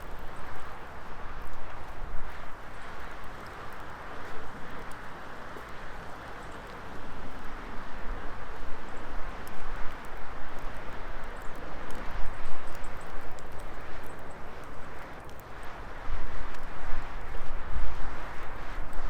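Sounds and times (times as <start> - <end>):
fire crackles and pops: 0.0 - 19.0
wood fire hissing: 0.0 - 19.0.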